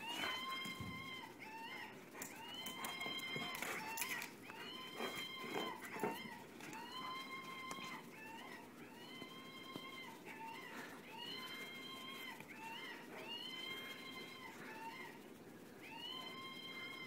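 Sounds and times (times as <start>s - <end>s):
toy squealing call: 0.0s - 15.2s, 15.8s - 17.0s.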